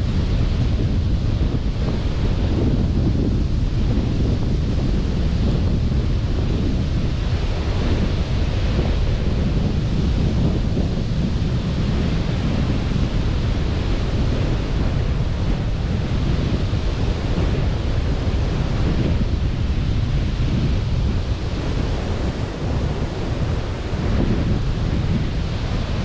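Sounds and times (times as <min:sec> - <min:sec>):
sea surf rushing: 0:00.0 - 0:26.0
wind buffeting microphone: 0:00.0 - 0:26.0.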